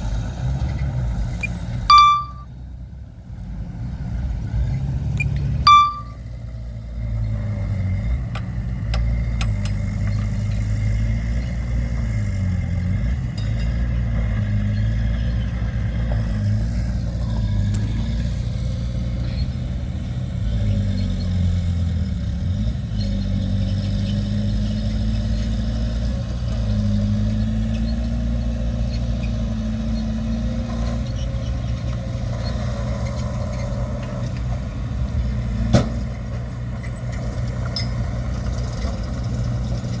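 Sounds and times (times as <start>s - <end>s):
heavy machinery diesel engine: 0.0s - 40.0s.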